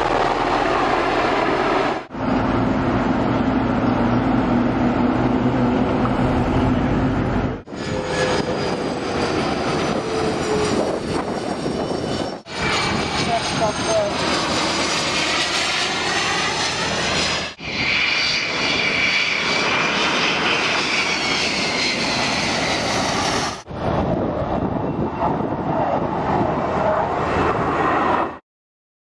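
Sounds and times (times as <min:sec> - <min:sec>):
aircraft engine roar with whine: 0:00.0 - 0:28.4.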